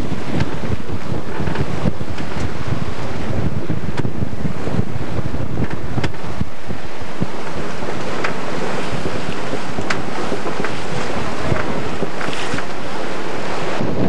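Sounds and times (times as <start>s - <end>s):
waves and rushing water: 0.0s - 14.0s
wind buffeting microphone: 0.0s - 14.0s.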